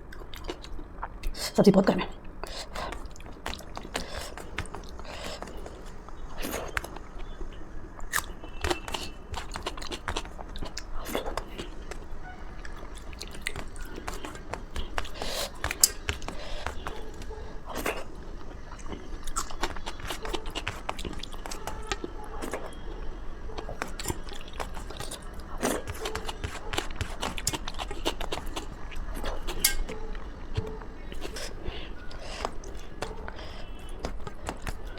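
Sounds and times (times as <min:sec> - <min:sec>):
person chewing: 0:00.0 - 0:01.4, 0:02.2 - 0:34.9.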